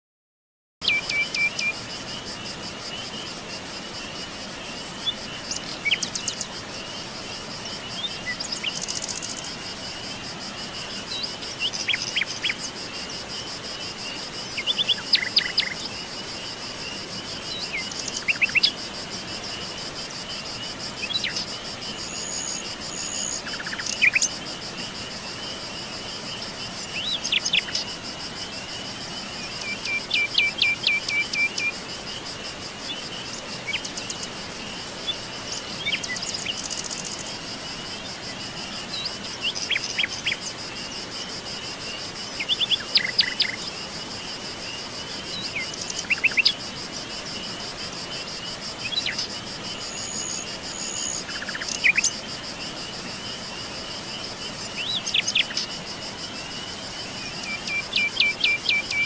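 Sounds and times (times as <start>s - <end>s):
insects trilling: 0.8s - 59.0s.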